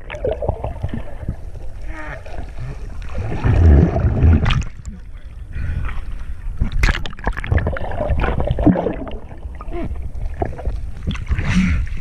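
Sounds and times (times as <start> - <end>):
water rushing and bubbling: 0.0 - 12.0.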